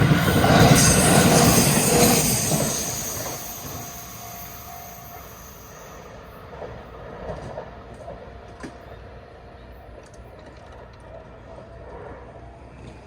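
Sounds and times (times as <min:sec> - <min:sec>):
electric train rail noise: 0:00.0 - 0:13.0.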